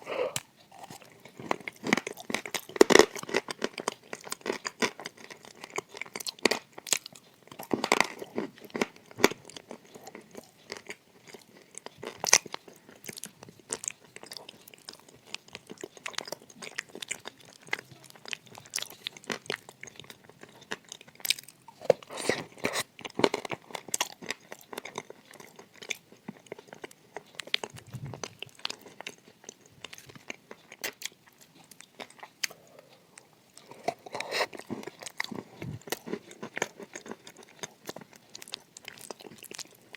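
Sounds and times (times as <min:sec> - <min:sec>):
crunchy biting and chewing: 0:00.1 - 0:39.9.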